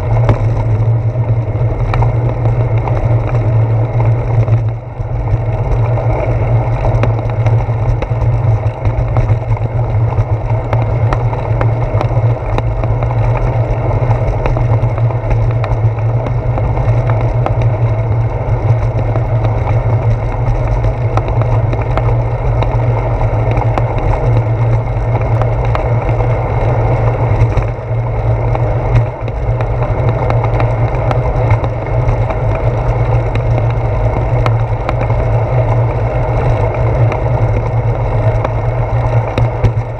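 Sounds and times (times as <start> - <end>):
bicycle knocks and rattles: 0.0 - 39.9
bicycle rolling and wind rumble: 0.0 - 39.9.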